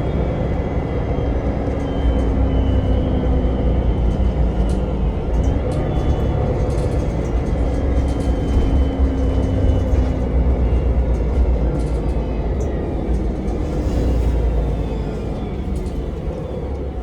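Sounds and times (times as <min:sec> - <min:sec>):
vehicle rumble from inside: 0:00.0 - 0:17.0.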